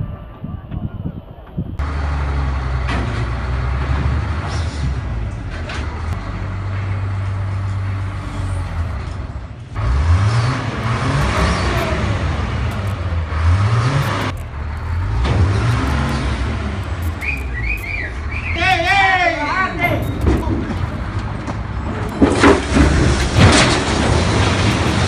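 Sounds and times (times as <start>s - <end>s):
vehicle engines revving: 1.8s - 25.0s.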